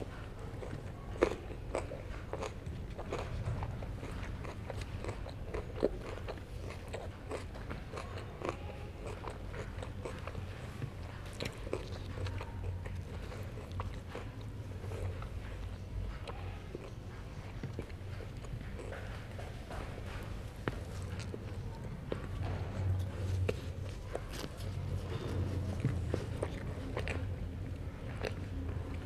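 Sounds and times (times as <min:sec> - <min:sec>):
biting and chewing fish: 0:00.0 - 0:29.0.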